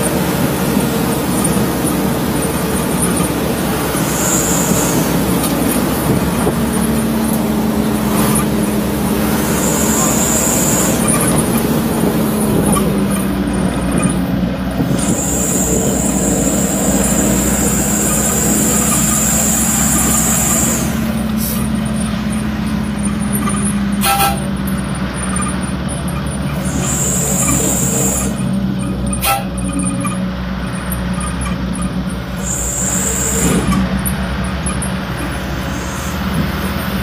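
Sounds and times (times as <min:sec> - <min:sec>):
high thin whine: 0:00.0 - 0:22.4, 0:23.0 - 0:24.6, 0:25.3 - 0:30.2, 0:32.2 - 0:37.0
truck engine and road noise: 0:00.0 - 0:37.0.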